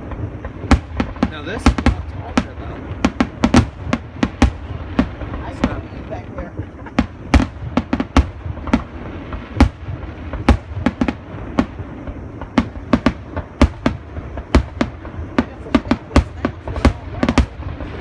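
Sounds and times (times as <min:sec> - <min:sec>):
fireworks banging: 0:00.0 - 0:18.0
loud firework booms: 0:00.0 - 0:18.0.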